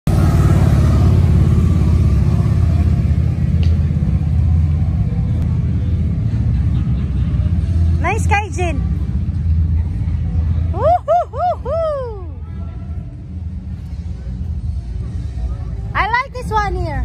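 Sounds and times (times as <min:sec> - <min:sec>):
motorcycles riding past: 0:00.1 - 0:15.9.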